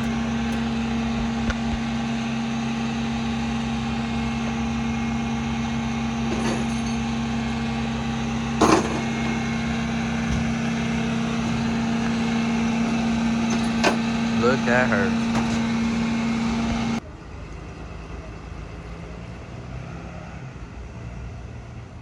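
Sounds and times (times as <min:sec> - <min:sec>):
truck engine humming: 0:00.0 - 0:19.5.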